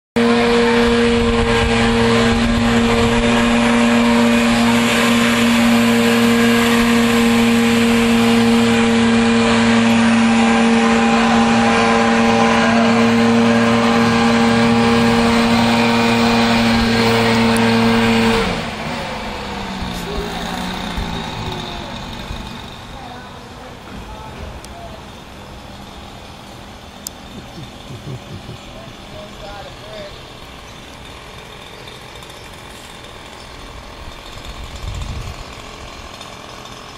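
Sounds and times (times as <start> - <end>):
diesel engine running loud: 0.2 - 36.9.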